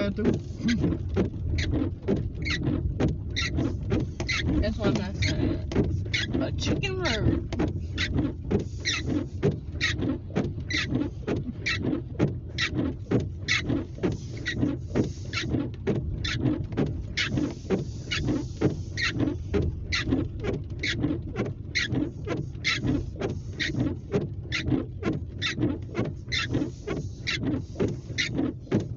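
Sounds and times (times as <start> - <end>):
low car hum: 0.0 - 28.9
windshield wipers squeaking: 0.0 - 28.9.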